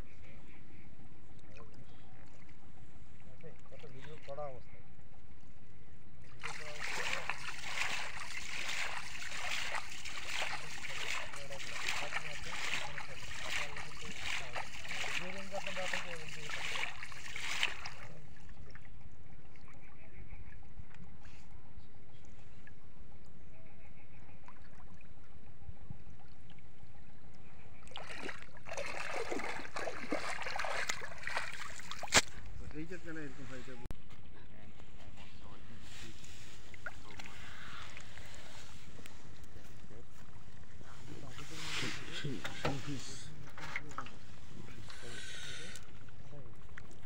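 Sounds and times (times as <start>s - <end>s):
water splashing and sloshing: 0.7s - 34.2s, 35.0s - 47.0s.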